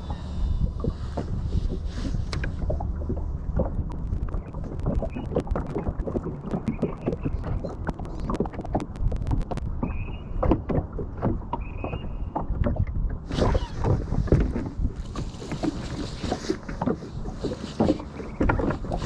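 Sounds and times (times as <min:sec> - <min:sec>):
waves slapping boat hull: 0:00.0 - 0:19.0.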